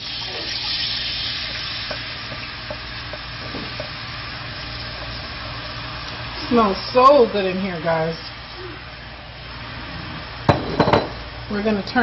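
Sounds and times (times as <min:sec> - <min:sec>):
sauce sizzling in hot oil: 0:00.0 - 0:12.0.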